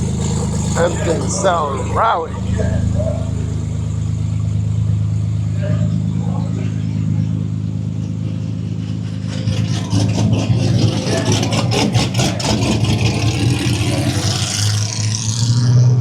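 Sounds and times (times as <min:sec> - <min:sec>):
car engines running rough: 0:00.0 - 0:16.0
engine crackles: 0:00.0 - 0:16.0.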